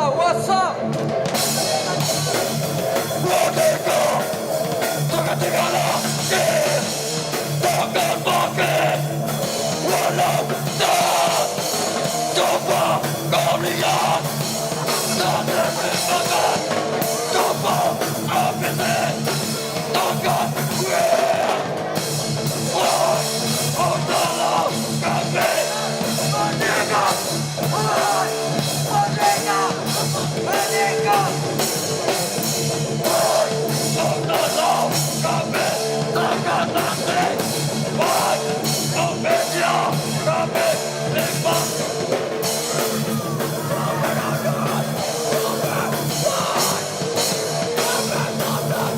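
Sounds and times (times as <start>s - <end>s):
punk band playing live: 0.0s - 48.9s.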